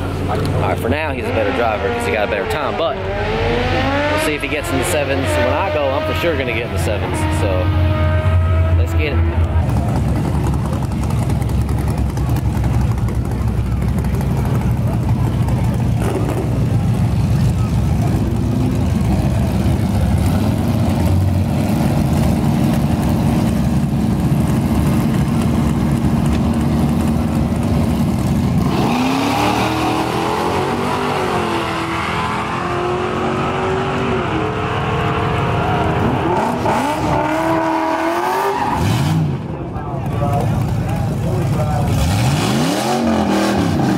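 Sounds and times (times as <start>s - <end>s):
pickup truck engine revving: 0.0s - 43.9s.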